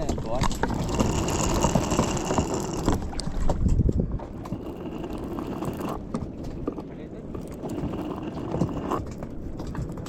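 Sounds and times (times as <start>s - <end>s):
water sloshing around kayak: 0.0s - 10.0s
wind on microphone: 0.0s - 10.0s.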